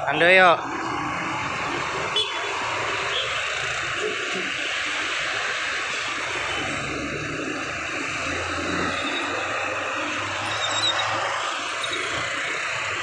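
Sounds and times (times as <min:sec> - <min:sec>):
bus diesel engine passing: 0:00.0 - 0:13.0
road traffic noise: 0:00.0 - 0:13.0.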